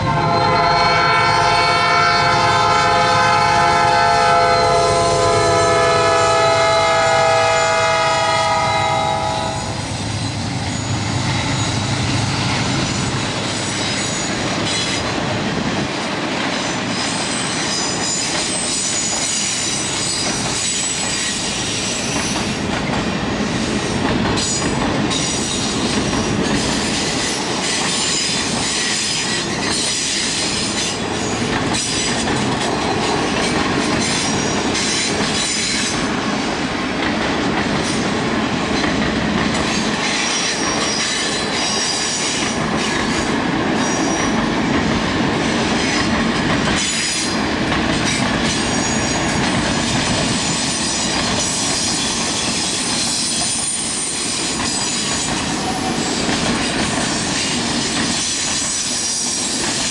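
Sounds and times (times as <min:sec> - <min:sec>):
train cars rolling past: 0:00.0 - 0:59.9.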